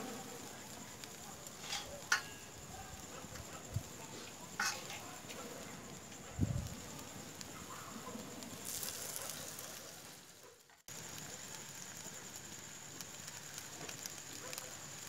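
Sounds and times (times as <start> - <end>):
meat sizzling on hot stone: 0.0 - 15.0
wood fire crackling: 0.0 - 15.0.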